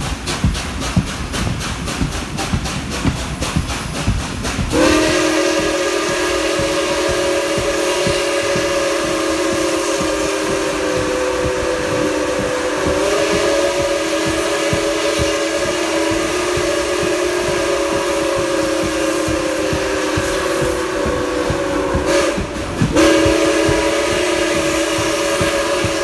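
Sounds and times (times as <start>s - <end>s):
low pulsing of moving train: 0.0s - 26.0s
steam locomotive chime whistle: 4.7s - 26.0s.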